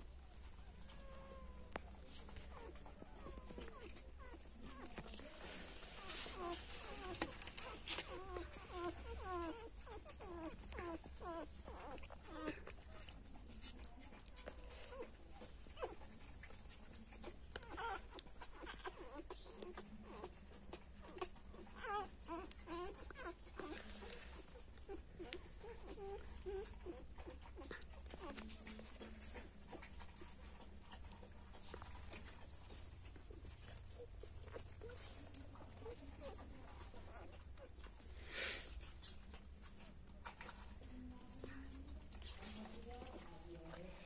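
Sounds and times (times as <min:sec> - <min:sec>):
puppies squeaking and whimpering: 0:00.2 - 0:44.0.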